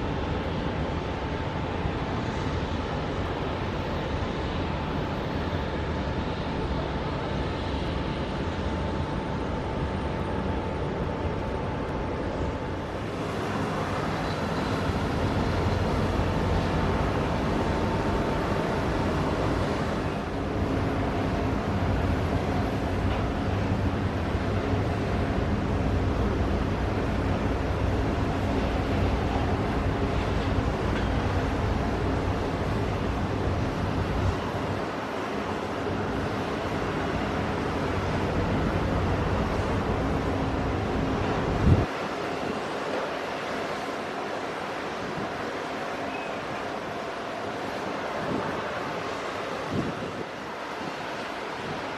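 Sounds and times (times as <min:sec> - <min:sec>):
jet engines running with whine: 0:00.0 - 0:51.9.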